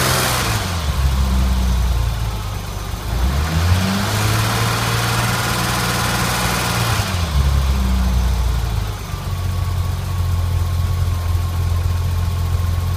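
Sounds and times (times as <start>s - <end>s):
car engine revving and idling: 0.0s - 12.9s.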